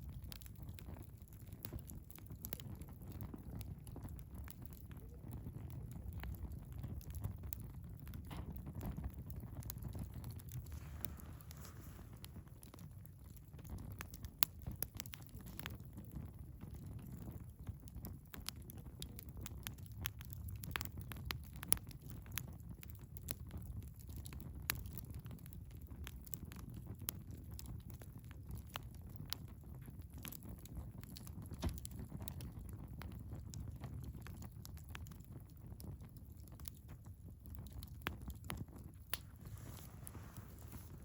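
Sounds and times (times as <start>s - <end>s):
flames rumbling: 0.0s - 41.0s
wood fire crackling: 0.0s - 41.0s.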